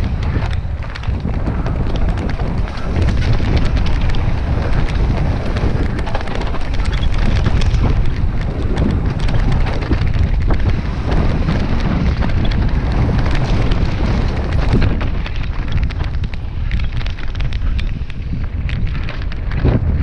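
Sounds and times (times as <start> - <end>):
bike clicks and rattles: 0.0 - 20.0
rumbling bike tyres: 0.0 - 20.0
wind rush on microphone: 0.0 - 20.0.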